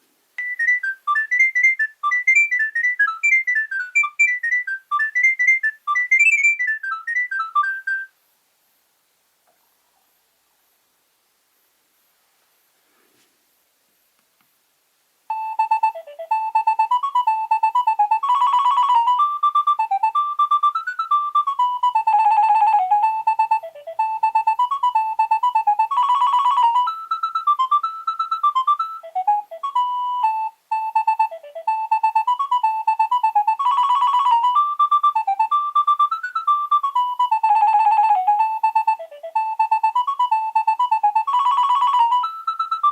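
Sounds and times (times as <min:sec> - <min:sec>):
mobile phone ringtone melody: 0:00.4 - 0:08.1, 0:15.3 - 0:42.9.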